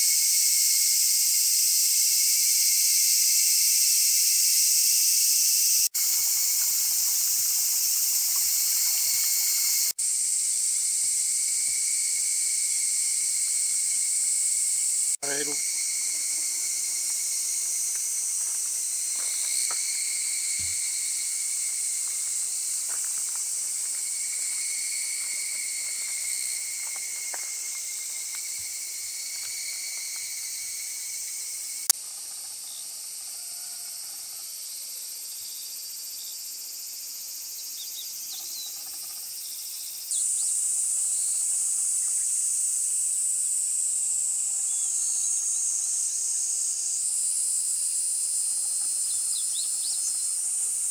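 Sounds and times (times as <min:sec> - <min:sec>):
cicadas and insects droning: 0:00.0 - 0:50.9.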